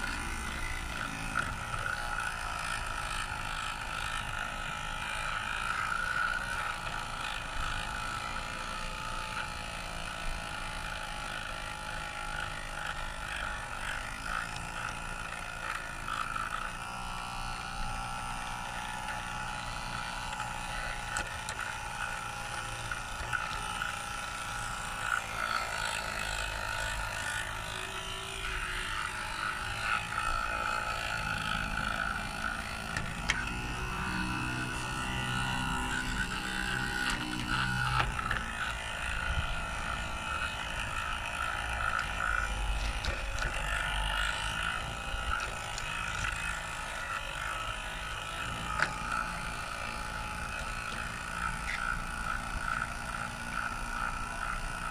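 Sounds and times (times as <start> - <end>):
model train motor whirring: 0.0 - 54.9.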